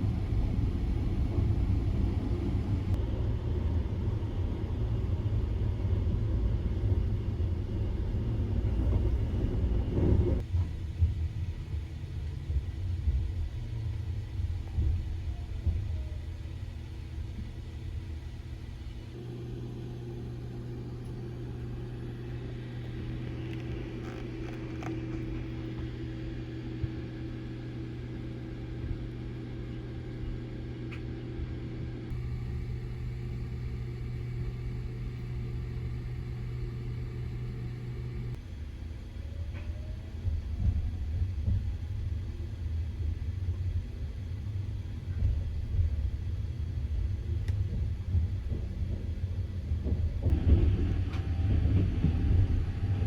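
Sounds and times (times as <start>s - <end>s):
train running rumble and hum: 0.0s - 53.0s.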